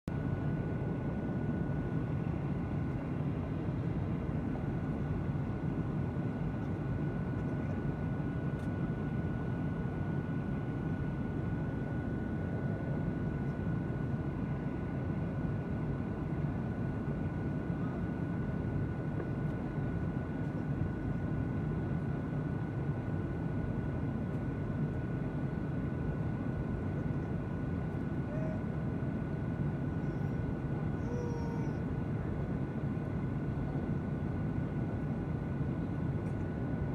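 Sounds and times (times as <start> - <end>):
jet engines droning: 0.2 - 36.9.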